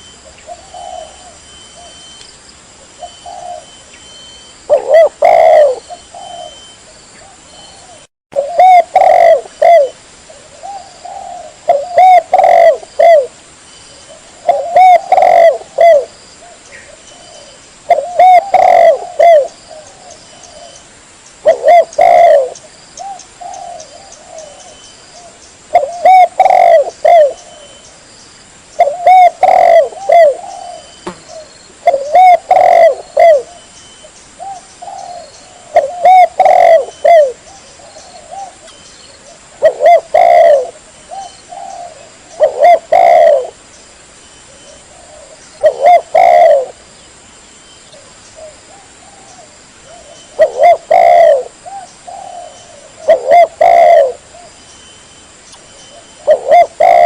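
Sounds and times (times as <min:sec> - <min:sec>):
dove cooing: 0:00.0 - 0:02.0, 0:02.9 - 0:03.8, 0:04.7 - 0:13.4, 0:14.0 - 0:20.8, 0:21.4 - 0:27.8, 0:28.8 - 0:33.7, 0:34.4 - 0:43.6, 0:44.5 - 0:46.8, 0:47.9 - 0:54.6, 0:55.9 - 0:57.0.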